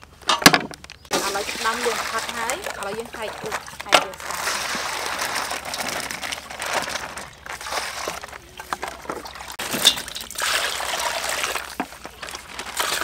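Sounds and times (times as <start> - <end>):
water pouring into a metal basin: 1.1 - 13.0.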